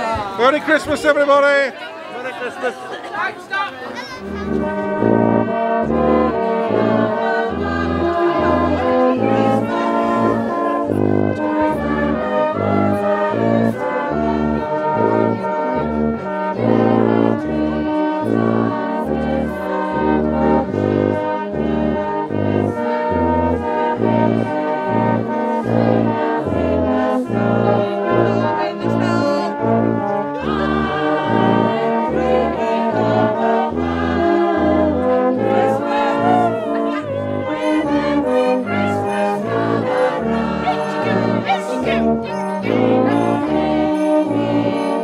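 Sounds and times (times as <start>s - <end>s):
brass band playing a carol: 0.0s - 45.0s
tuba bass line: 4.2s - 45.0s.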